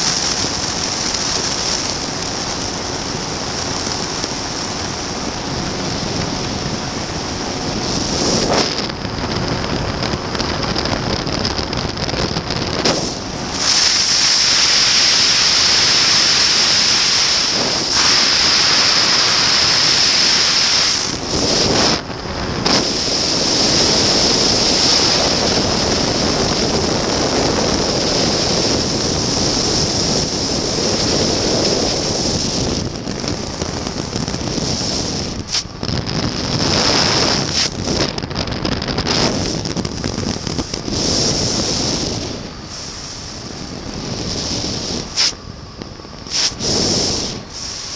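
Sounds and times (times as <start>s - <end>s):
aircraft engine running: 0.0s - 47.9s
wind rushing over microphone: 0.0s - 47.9s.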